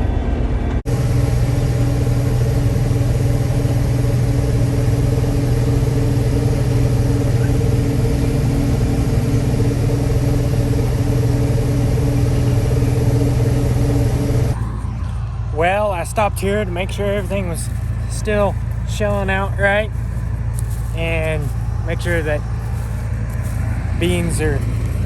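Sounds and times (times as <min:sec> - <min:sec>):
combine harvester drone: 0:00.0 - 0:25.0.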